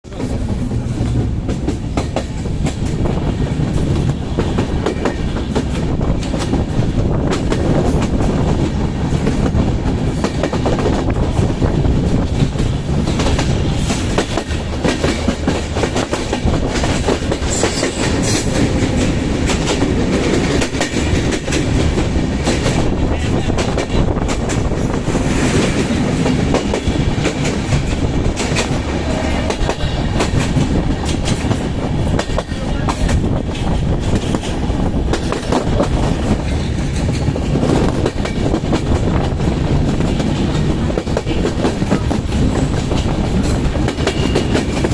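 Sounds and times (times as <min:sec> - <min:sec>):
train wheels clattering over rail joints: 0:00.1 - 0:44.9.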